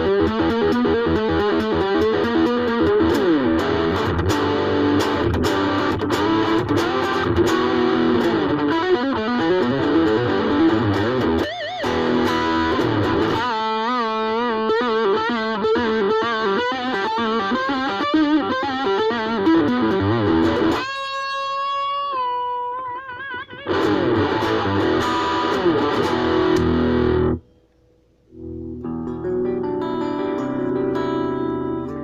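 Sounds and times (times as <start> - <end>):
electric guitar through amplifier: 0.0 - 32.0.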